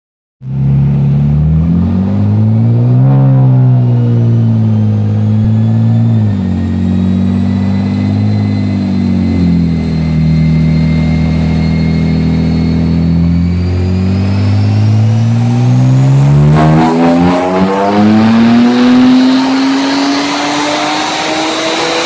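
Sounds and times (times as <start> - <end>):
car engine revving: 0.4 - 22.0
faint high whine: 2.6 - 21.0.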